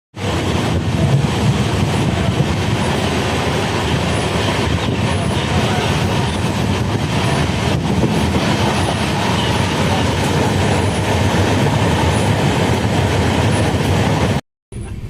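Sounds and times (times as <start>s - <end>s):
train wheels rumbling on rails: 0.1s - 15.0s.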